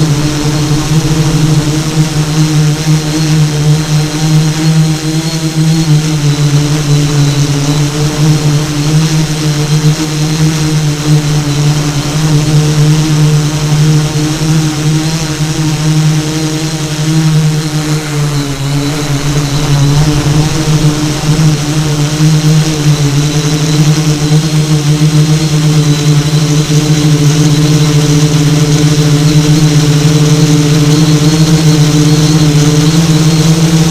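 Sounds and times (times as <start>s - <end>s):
model aircraft propellers droning: 0.0s - 33.9s.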